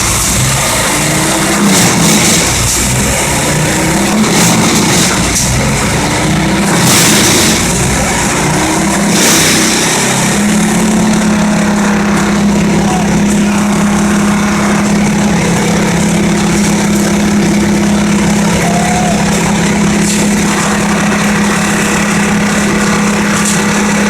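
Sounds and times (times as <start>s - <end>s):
wood chipper engine running: 0.0s - 24.0s.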